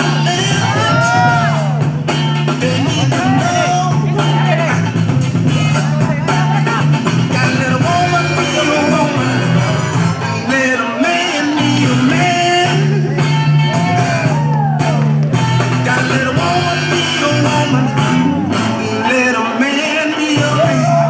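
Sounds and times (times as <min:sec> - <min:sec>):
loud music with singing and bass: 0:00.0 - 0:21.0.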